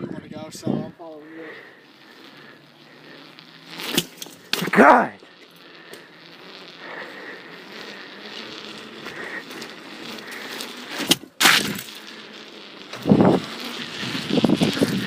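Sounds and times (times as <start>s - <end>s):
bicycle rolling: 0.4s - 15.0s.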